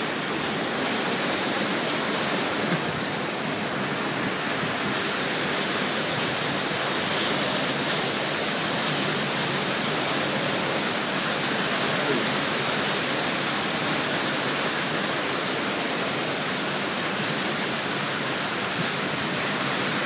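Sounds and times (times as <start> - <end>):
heavy surf roar: 0.0 - 20.0.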